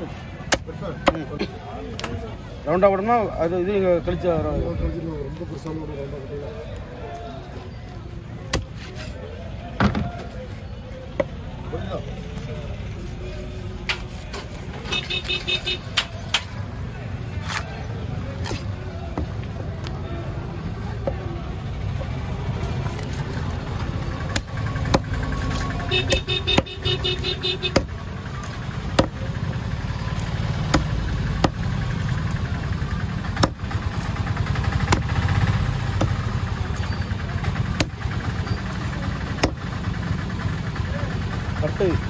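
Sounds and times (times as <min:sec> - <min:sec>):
low engine rumble: 0:00.1 - 0:42.0.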